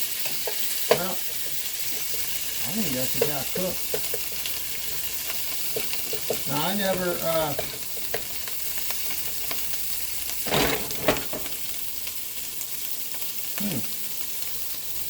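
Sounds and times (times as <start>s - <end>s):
mushrooms sizzling in a pan: 0.0s - 15.0s.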